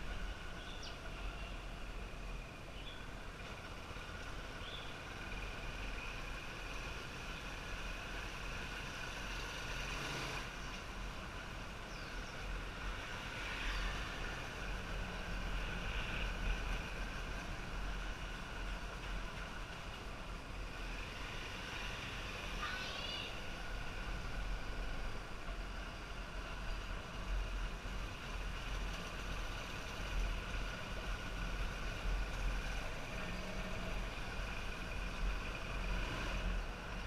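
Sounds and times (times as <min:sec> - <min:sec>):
motorcycle engine and road noise: 0:00.0 - 0:37.0.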